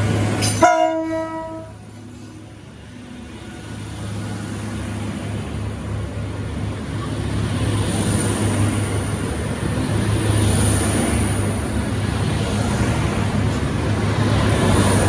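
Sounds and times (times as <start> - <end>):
train engine drone: 0.0 - 15.0.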